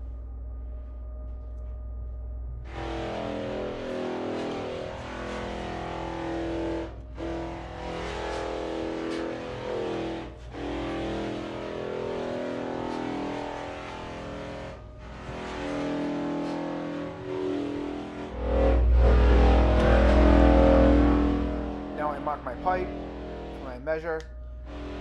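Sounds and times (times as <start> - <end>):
background music with sustained chords: 0.0 - 25.0.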